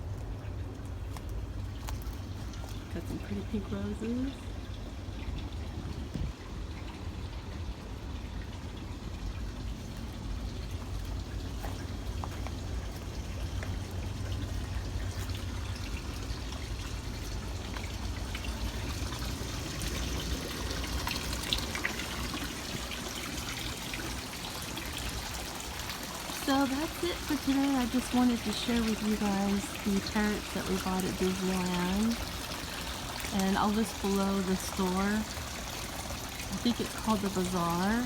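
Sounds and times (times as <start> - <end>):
water trickling: 0.0 - 38.0.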